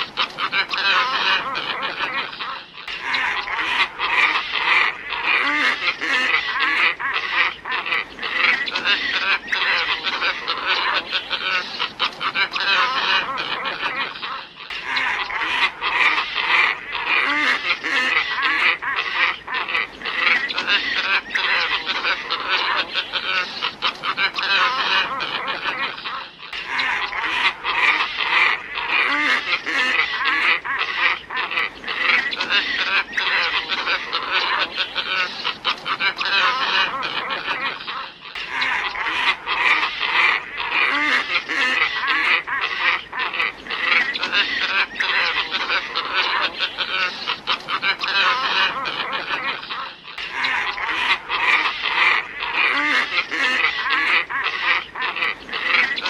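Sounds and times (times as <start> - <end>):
flock of ibises croaking: 0.0 - 56.0.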